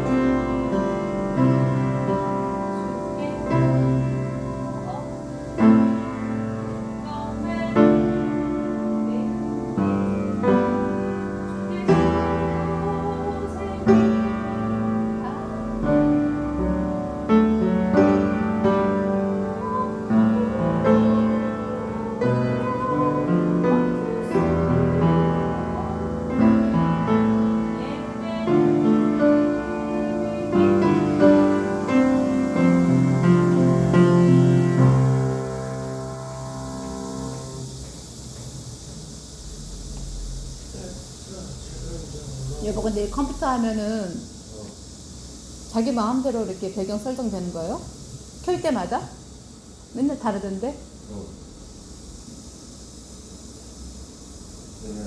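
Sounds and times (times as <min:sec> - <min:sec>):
slow piano piece: 0:00.0 - 0:55.0.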